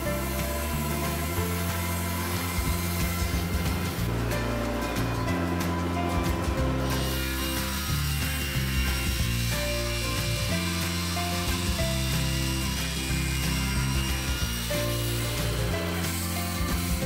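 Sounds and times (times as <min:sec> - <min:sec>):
background music: 0:00.0 - 0:17.0
table saw cutting wood: 0:00.0 - 0:17.0.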